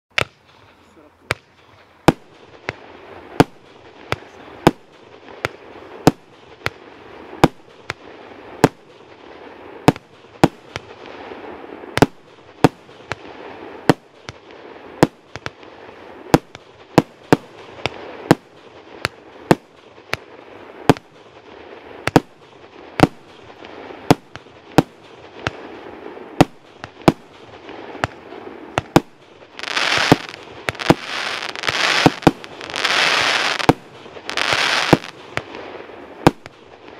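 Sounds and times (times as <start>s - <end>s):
firework bangs: 0.1s - 36.9s
firework crackling: 0.1s - 36.9s
firework hiss: 0.2s - 36.9s.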